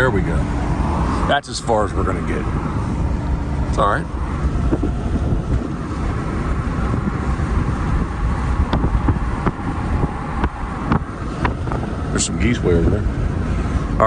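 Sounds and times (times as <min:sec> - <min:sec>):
car engine rumble from cabin: 0:00.0 - 0:14.0.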